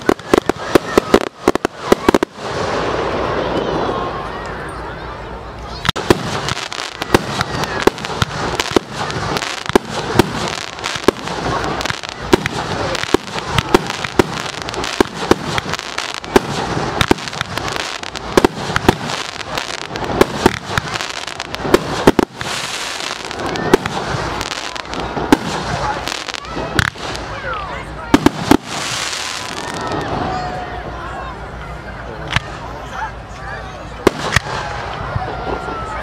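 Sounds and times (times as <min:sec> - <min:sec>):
fireworks bangs: 0:00.0 - 0:04.6, 0:05.7 - 0:30.9, 0:34.0 - 0:36.0
crackling fireworks shells: 0:00.0 - 0:04.8, 0:05.6 - 0:30.5, 0:34.0 - 0:36.0.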